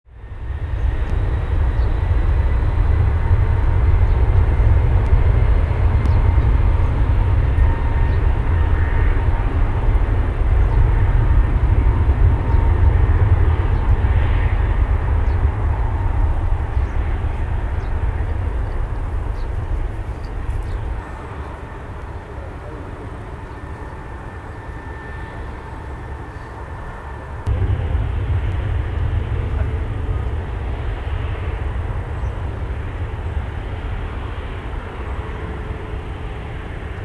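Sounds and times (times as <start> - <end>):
faint high jet whine: 0.1 - 37.0
jet engines rumbling: 0.1 - 37.0.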